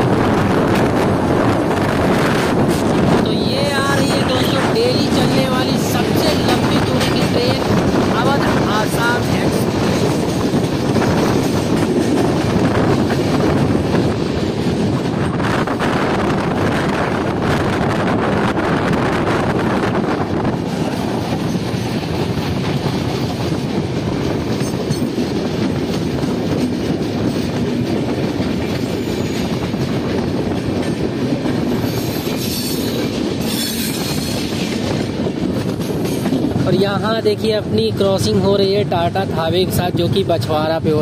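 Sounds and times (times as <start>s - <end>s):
clickety-clack over rail joints: 0.0s - 41.0s
train wheels rumbling on rails: 0.0s - 41.0s.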